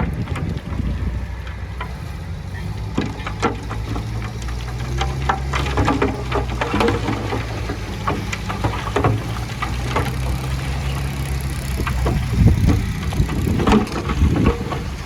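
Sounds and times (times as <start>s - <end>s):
heavy diesel machinery running: 0.0s - 15.0s
knocks and clattering: 0.0s - 15.0s.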